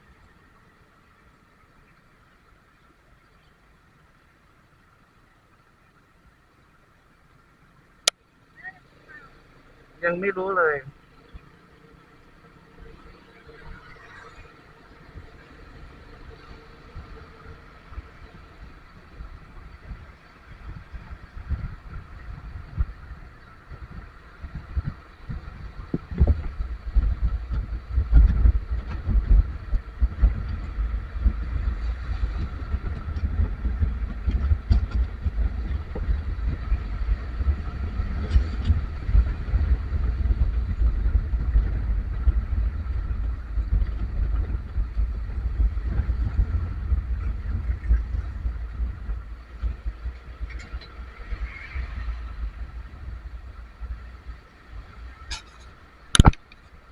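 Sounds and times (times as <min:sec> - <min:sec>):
vehicle engine and road rumble: 0:00.0 - 0:56.9.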